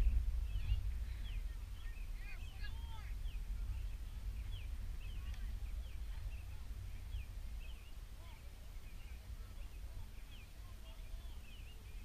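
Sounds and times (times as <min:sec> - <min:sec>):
birds chirping: 0:00.0 - 0:12.0
wind rumble on microphone: 0:00.0 - 0:12.0.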